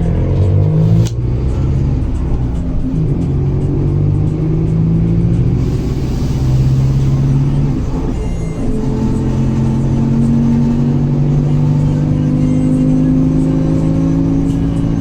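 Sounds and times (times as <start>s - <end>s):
bus diesel engine revving: 0.0s - 15.0s.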